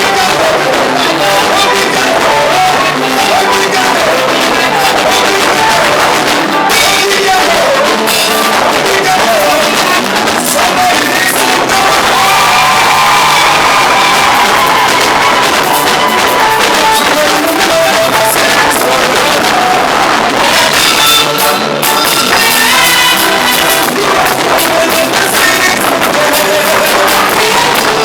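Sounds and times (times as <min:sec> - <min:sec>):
live praise band music: 0:00.0 - 0:28.0
steady drum beat: 0:00.0 - 0:28.0.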